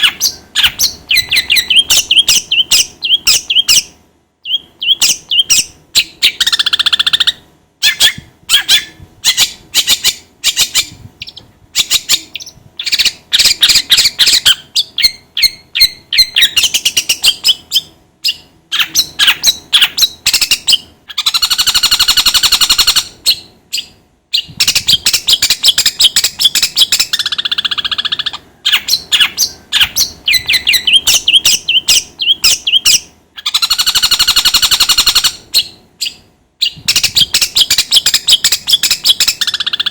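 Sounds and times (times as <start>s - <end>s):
bird harsh rasping calls: 0.0s - 3.9s, 4.5s - 39.9s
bird chattering and chirping: 0.0s - 39.9s.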